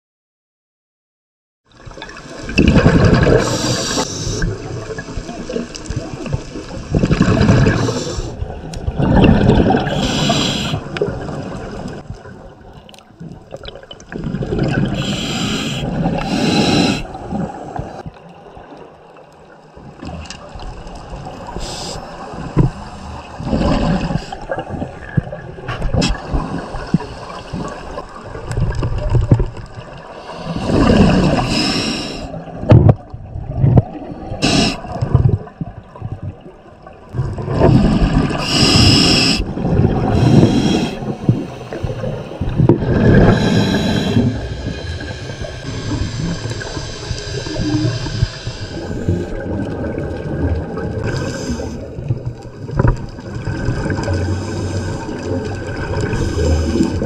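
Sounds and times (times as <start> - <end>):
exhaled air bubbling underwater: 1.7 - 57.0
quiet bubbling and rumbling: 1.7 - 57.0.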